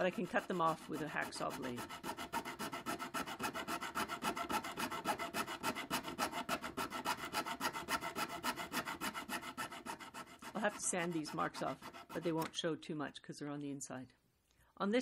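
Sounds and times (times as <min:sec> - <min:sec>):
hacksaw sawing metal: 0:00.0 - 0:12.5.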